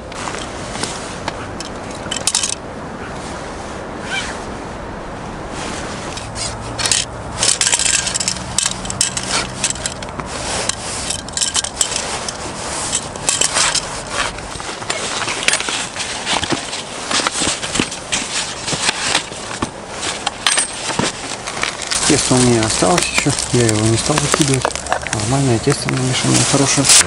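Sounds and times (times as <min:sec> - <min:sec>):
fishing rod and line scraping: 0:00.0 - 0:04.6, 0:05.5 - 0:27.0.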